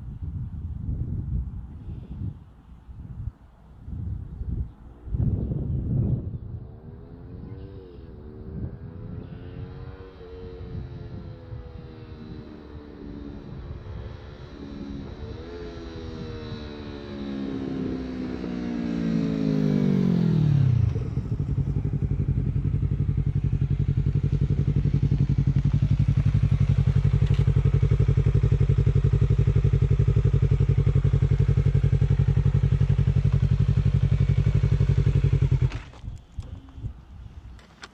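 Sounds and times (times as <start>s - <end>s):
motorcycle engine slowing and idling: 3.8s - 37.9s.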